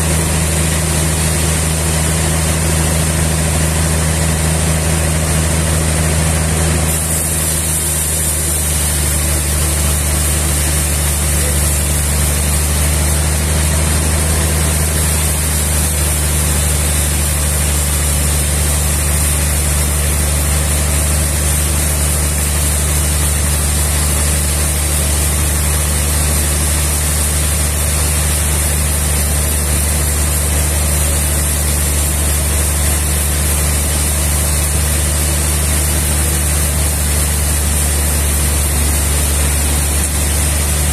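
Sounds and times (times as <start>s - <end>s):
engine hum: 0.0s - 40.9s.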